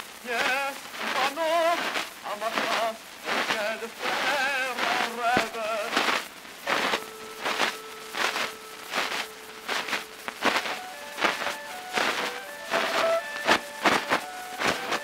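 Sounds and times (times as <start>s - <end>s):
record surface noise crackles: 0.0s - 15.0s
tenor singing with vibrato: 0.2s - 15.0s.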